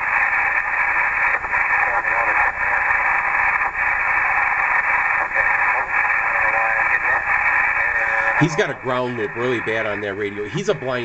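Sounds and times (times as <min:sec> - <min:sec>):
loud steady radio buzzing: 0:00.0 - 0:11.0
faint distorted voice: 0:00.9 - 0:11.0.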